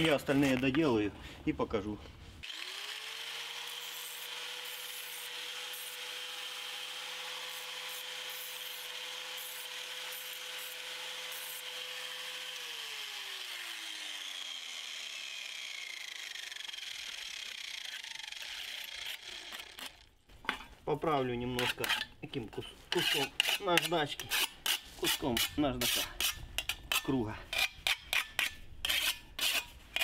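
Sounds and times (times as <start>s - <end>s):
angle grinder grinding steel: 2.4s - 30.0s.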